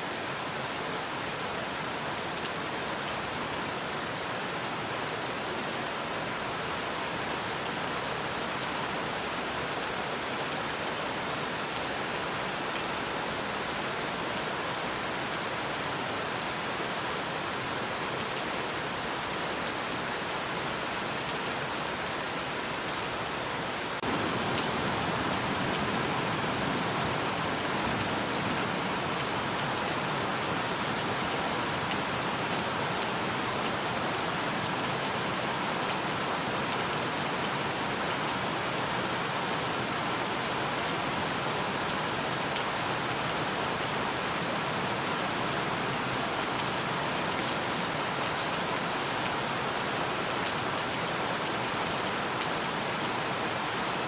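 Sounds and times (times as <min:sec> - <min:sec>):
rain pattering on surfaces: 0:00.1 - 0:46.8.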